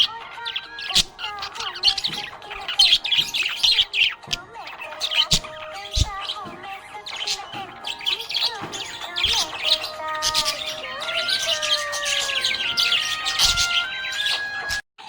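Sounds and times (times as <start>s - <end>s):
background music with held notes: 0.0s - 14.8s
budgerigars chirping: 0.0s - 14.8s.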